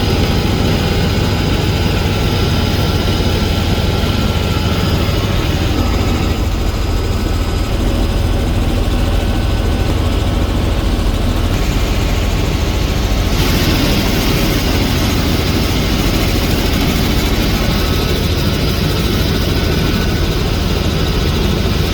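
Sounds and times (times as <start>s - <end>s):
helicopter rotor and engine: 0.0s - 21.9s.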